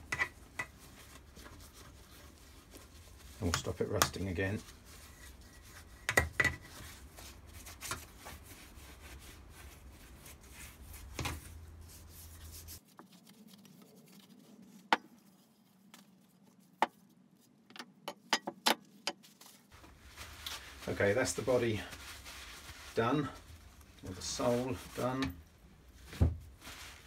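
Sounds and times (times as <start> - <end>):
cloth rubbing on metal: 0.0 - 17.6, 18.8 - 27.0.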